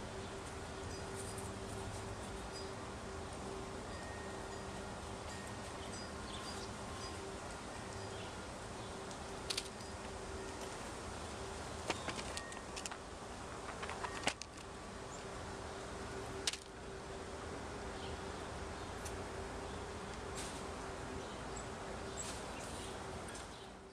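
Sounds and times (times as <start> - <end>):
steady buzzing hum: 0.0 - 23.9.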